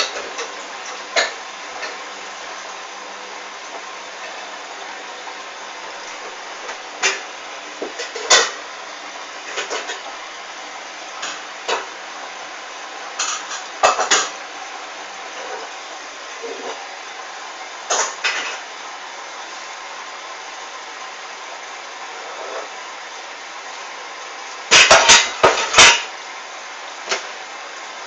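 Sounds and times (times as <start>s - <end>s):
washing machine drum humming: 0.0s - 28.0s.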